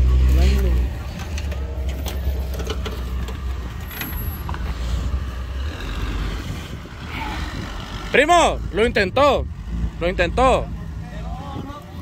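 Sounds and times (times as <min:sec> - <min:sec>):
engine running low and steady: 0:00.0 - 0:12.0.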